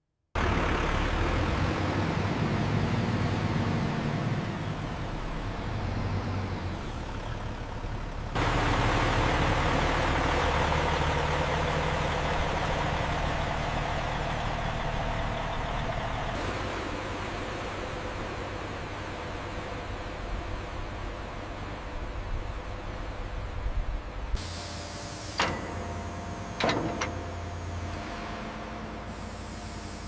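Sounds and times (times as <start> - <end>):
truck diesel engine running: 0.4 - 30.0.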